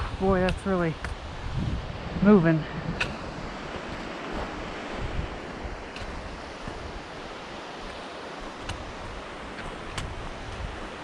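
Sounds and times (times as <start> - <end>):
mountain stream rushing: 0.0 - 11.0
wind buffeting microphone: 0.0 - 11.0.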